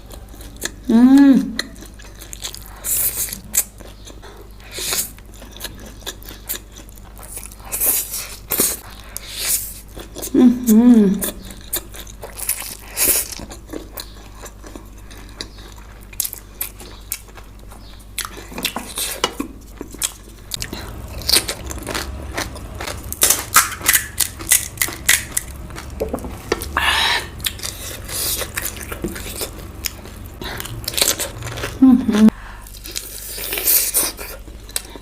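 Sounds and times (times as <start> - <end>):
chewing and biting: 1.6 - 10.4, 11.2 - 31.8.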